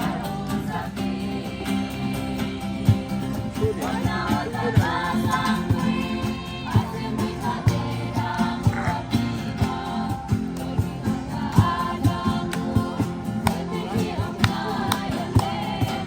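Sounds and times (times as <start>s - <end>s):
guitar: 0.0s - 16.0s
steady drum beat: 0.0s - 16.0s.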